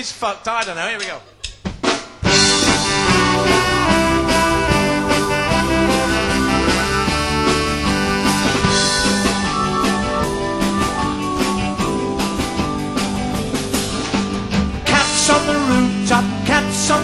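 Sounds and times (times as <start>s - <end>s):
live rock band playing: 1.8s - 17.0s.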